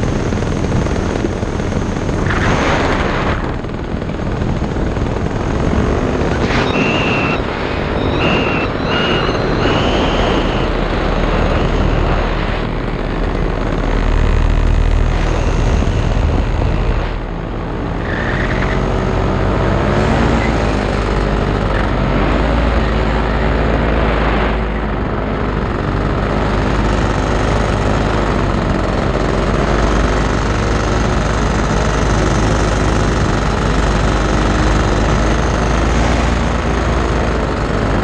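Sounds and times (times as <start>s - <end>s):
paramotor engine and propeller: 0.0s - 38.0s.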